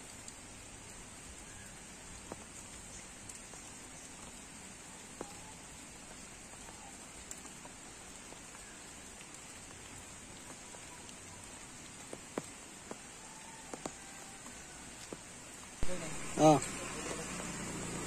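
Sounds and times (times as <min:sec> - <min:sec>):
rain falling on a pond: 0:00.0 - 0:18.0.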